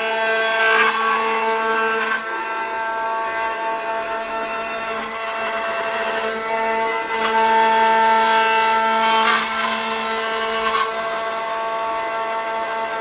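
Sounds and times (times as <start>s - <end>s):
cutter rasps: 0.0s - 13.0s
machine spindle whine: 0.0s - 13.0s.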